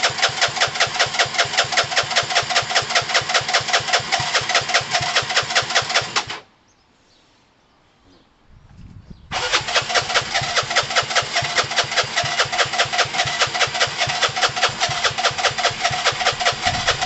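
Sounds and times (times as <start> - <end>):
engine cranking on starter: 0.0 - 6.5, 9.3 - 17.0.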